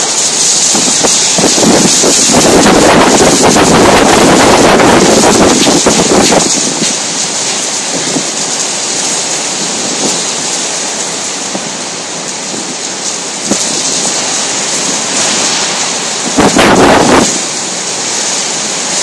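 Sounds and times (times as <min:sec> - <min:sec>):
heavy rain pouring: 0:00.0 - 0:19.0
rush of wind: 0:00.0 - 0:19.0.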